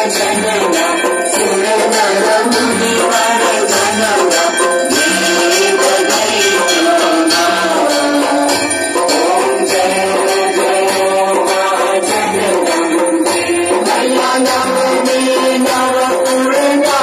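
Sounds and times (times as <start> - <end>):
jingling percussion beat: 0.0 - 17.0.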